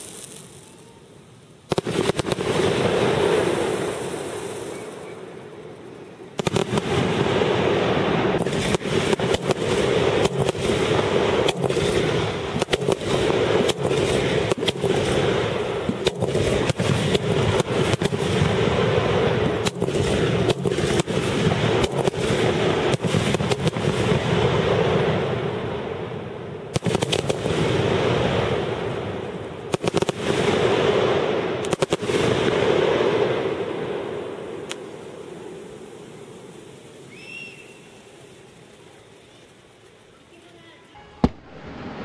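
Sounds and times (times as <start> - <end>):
firework shells bursting: 0.0 - 7.6, 8.2 - 24.9, 26.7 - 40.2.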